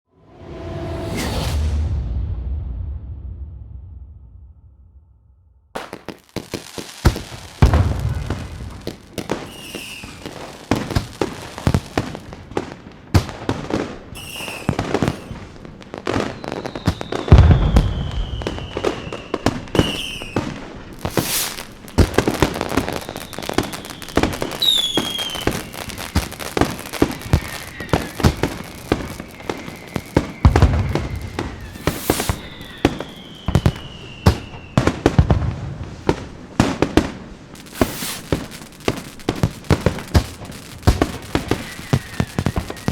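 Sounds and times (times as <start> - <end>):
fireworks booms: 1.0 - 42.9
whistling firework shells: 5.8 - 36.3, 36.9 - 42.9
fireworks crackling and popping: 5.8 - 42.9.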